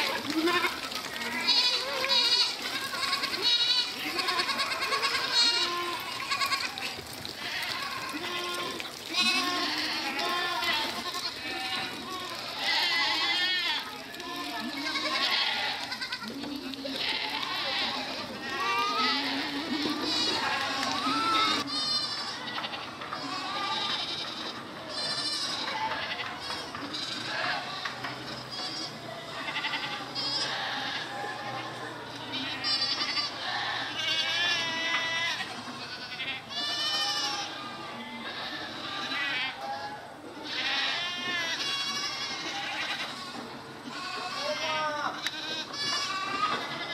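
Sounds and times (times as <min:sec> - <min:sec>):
goats bleating: 0:00.0 - 0:46.9.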